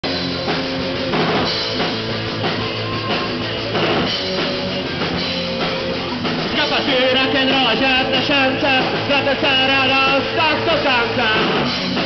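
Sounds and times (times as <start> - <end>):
bass drum: 0.0 - 12.0
rock band playing: 0.0 - 12.0.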